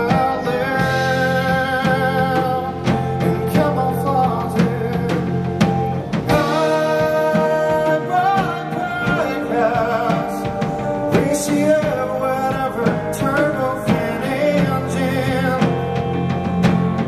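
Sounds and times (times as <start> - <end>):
bass guitar: 0.0 - 17.0
drum kit: 0.0 - 17.0
electric guitar: 0.0 - 17.0
man singing: 0.0 - 17.0.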